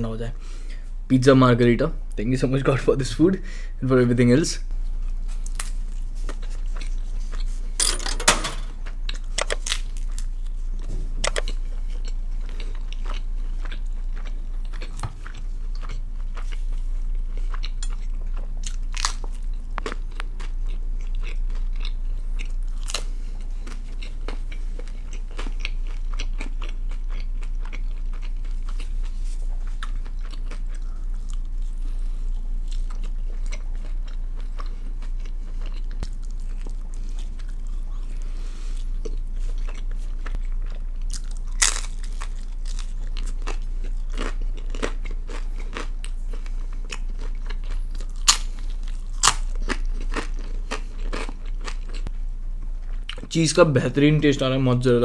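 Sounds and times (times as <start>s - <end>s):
crunchy chewing of pizza: 4.8s - 7.8s, 8.7s - 53.3s.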